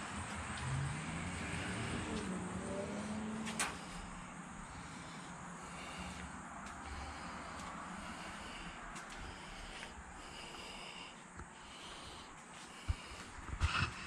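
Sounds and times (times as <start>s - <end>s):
distant engine rising and falling: 0.0s - 14.0s.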